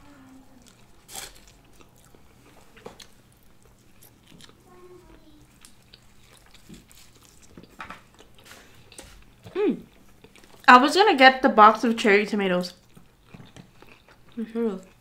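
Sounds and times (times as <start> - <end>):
people chewing: 0.0 - 10.7, 12.6 - 15.0.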